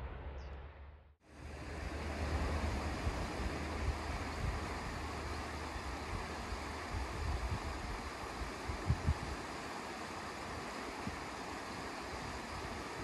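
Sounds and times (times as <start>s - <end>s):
sea surf rushing: 1.2s - 13.0s
wind buffeting microphone: 1.4s - 13.0s.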